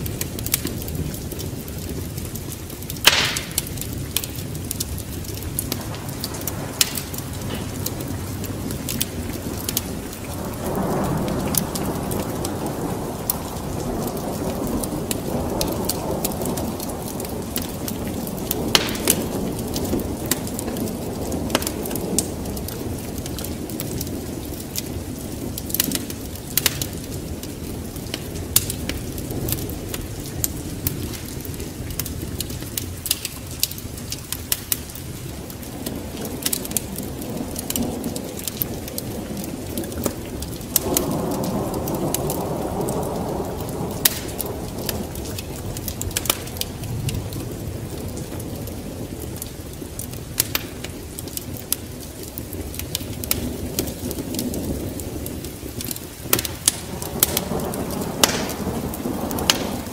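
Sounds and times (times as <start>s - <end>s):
steady rain: 0.0s - 59.9s
thunder rumble: 0.0s - 59.9s
wood fire crackling: 0.0s - 59.9s.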